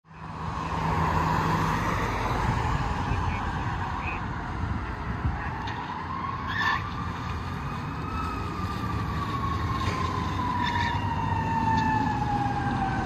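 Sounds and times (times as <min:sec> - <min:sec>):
road traffic rumble: 0:00.0 - 0:13.0
fire engine siren wailing: 0:00.2 - 0:13.0.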